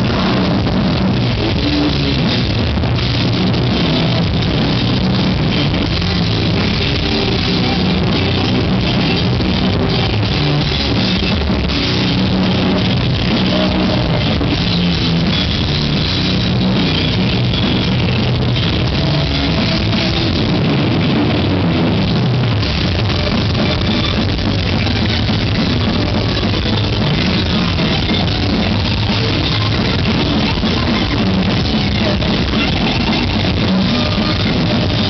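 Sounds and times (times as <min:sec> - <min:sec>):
distorted electric guitars: 0:00.0 - 0:35.0
drum kit: 0:00.0 - 0:35.0.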